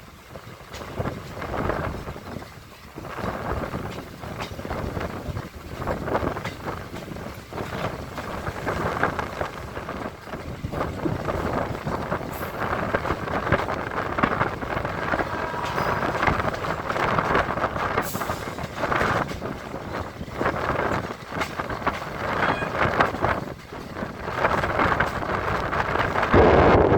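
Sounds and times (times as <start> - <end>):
train wheel and rail noise: 0.0 - 26.9
wind rushing past microphone: 0.2 - 26.9.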